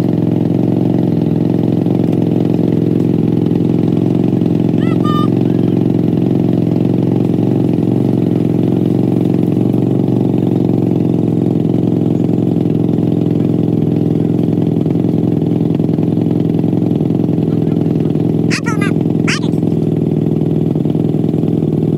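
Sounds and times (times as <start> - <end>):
atv engine idling: 0.0 - 21.9.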